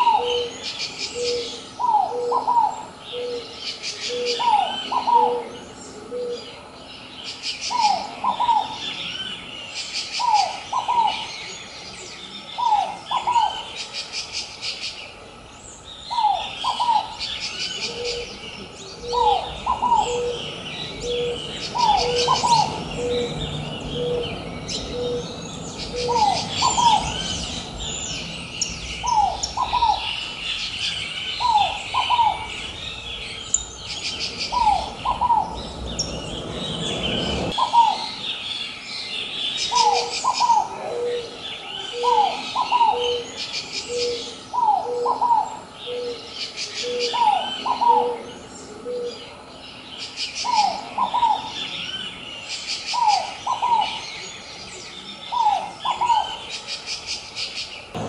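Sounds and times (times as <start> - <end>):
dove paired rising-and-falling coo: 0.0 - 6.7, 7.6 - 9.4, 10.2 - 11.5, 12.3 - 13.8, 16.1 - 38.3, 39.6 - 49.5, 50.4 - 52.2, 52.9 - 54.3, 54.9 - 56.5
small birds chirping: 0.0 - 58.0.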